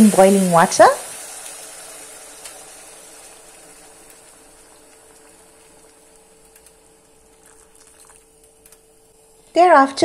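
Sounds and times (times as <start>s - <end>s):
faint steady hum: 0.0s - 10.0s
water hissing and bubbling in pot: 0.0s - 10.0s.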